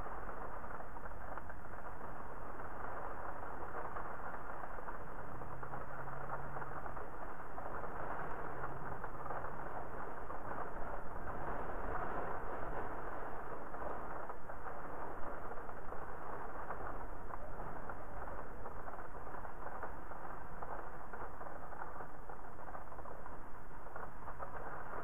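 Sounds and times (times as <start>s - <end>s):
rain with wind: 0.0s - 25.0s.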